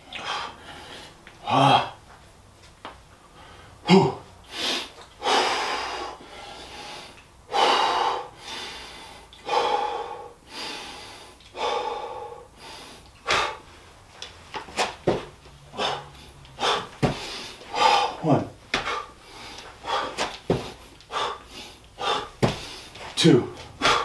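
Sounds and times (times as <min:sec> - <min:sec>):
man breathing forcefully: 0:00.0 - 0:02.0, 0:03.2 - 0:14.0, 0:14.6 - 0:24.0.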